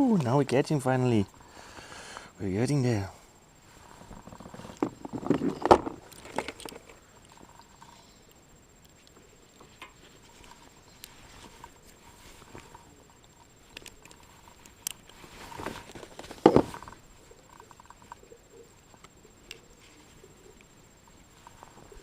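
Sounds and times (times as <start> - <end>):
rustle: 0.0 - 22.0.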